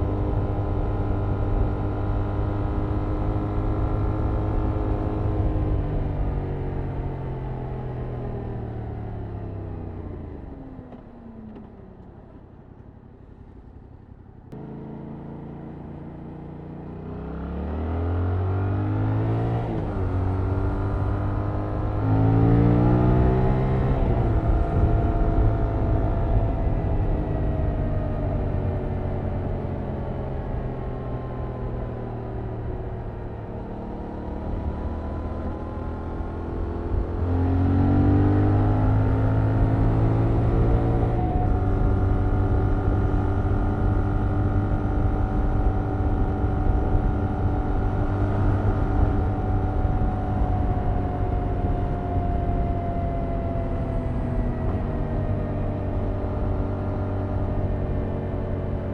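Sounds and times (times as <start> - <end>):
road and wind noise: 0.0 - 58.9.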